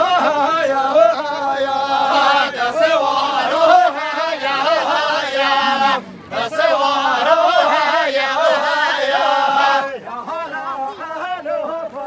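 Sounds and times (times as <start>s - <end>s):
men singing folk melody: 0.0s - 12.0s.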